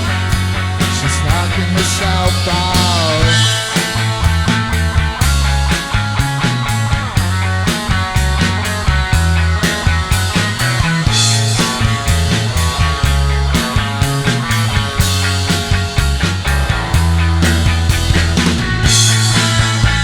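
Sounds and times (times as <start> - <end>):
bass line: 0.0 - 20.0
drum beat: 0.0 - 20.0.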